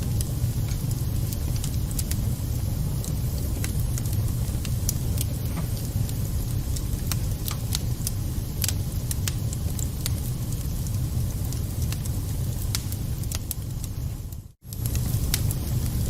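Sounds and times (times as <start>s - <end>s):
fire low rumble: 0.0s - 16.0s
wood crackling and popping: 0.0s - 16.0s.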